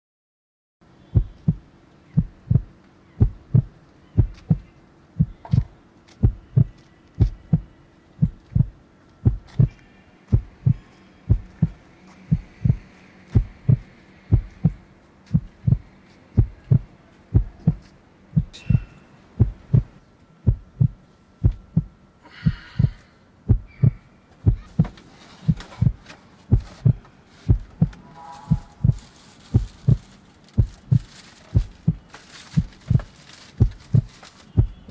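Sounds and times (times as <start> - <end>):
heartbeat thumps: 1.1 - 34.9.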